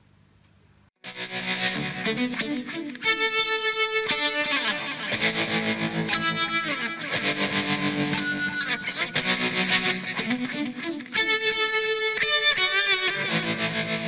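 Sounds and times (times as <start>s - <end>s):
distorted electric guitar chords: 1.0s - 14.0s.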